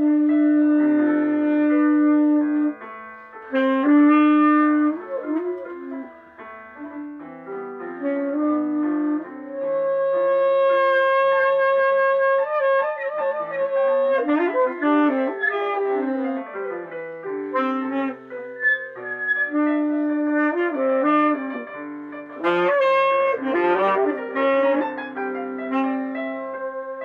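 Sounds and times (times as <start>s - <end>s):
piano: 0.0s - 27.0s
tenor saxophone: 0.0s - 27.0s.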